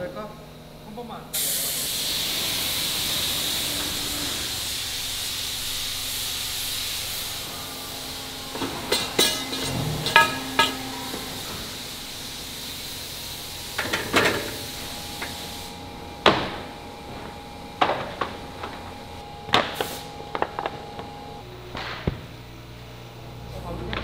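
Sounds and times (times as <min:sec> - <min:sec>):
factory machine noise: 0:00.0 - 0:24.0.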